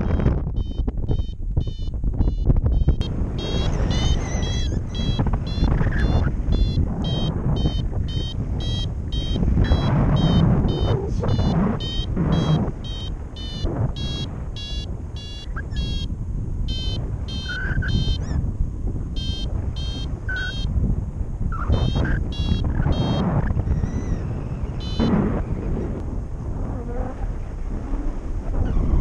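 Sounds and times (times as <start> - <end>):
variometer short high beeps: 0.0 - 16.1, 16.7 - 18.4, 19.2 - 20.7, 21.5 - 25.4
wind rushing across microphone: 0.0 - 29.0.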